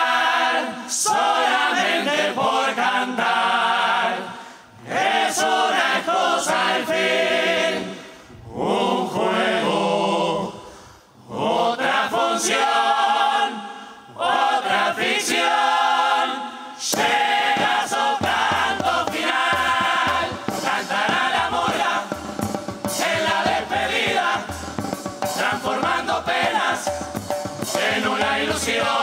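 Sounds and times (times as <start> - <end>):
chorus singing: 0.0 - 29.0.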